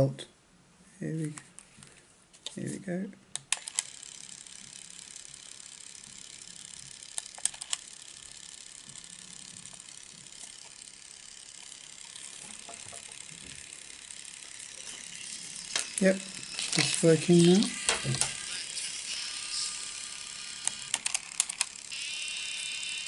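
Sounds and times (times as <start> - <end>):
cassette mechanism whirring: 3.4 - 23.0.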